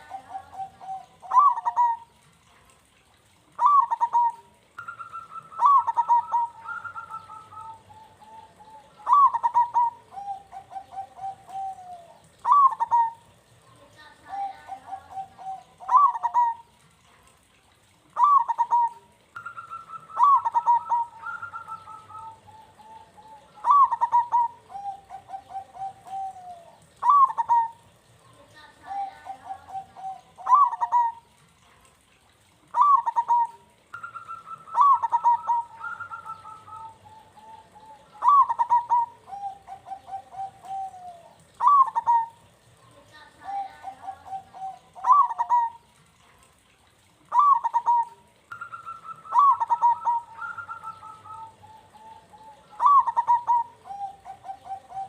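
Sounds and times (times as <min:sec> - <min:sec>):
dove cooing: 0:00.0 - 0:31.4, 0:32.6 - 0:46.3, 0:47.0 - 0:55.0.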